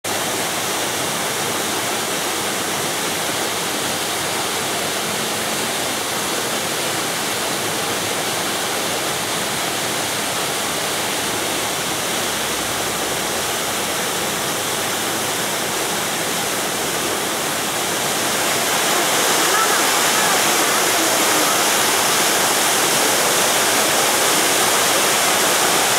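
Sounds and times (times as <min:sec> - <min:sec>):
waterfall rushing: 0:00.1 - 0:25.9.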